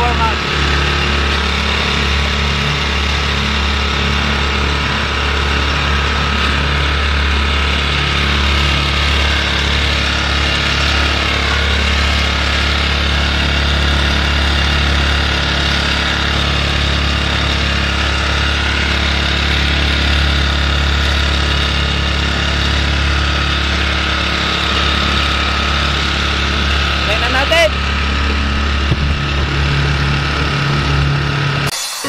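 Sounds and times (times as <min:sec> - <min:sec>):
small outboard motor running: 0:00.0 - 0:32.0.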